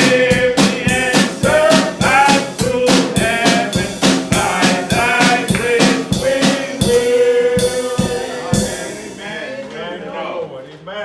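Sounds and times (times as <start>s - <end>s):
drum kit beat: 0.0s - 9.7s
live band music: 0.0s - 9.7s.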